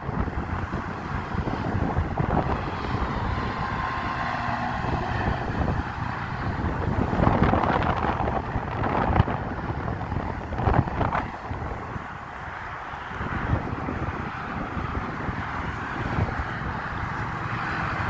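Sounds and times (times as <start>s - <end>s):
freeway traffic: 0.0s - 18.0s
wind rumbling on microphone: 0.0s - 18.0s.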